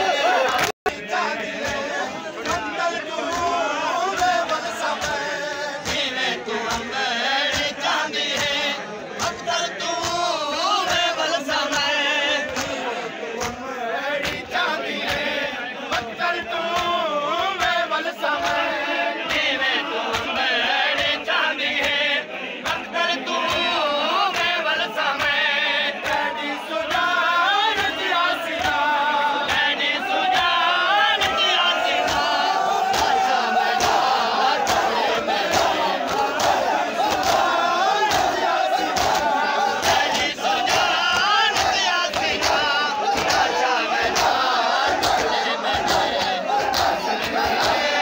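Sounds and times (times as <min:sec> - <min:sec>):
crowd of men chanting: 0:00.0 - 0:48.0.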